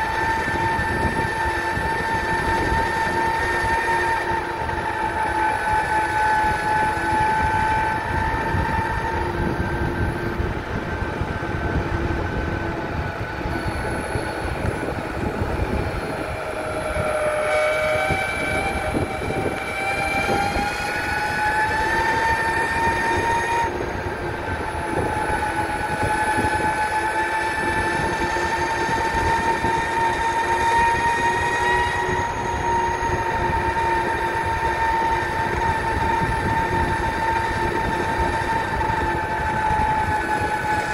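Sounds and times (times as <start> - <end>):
electric motors whining: 0.0 - 40.9.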